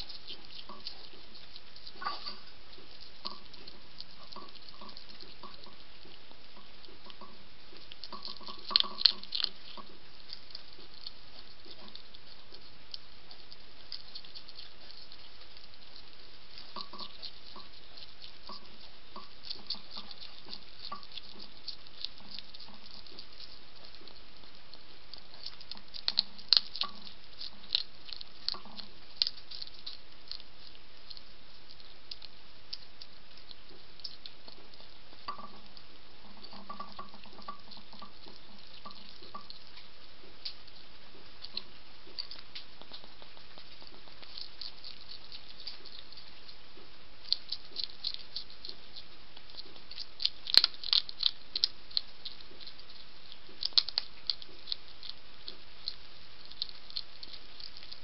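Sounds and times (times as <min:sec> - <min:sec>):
hedgehog crunching kibble: 0:00.0 - 0:58.0.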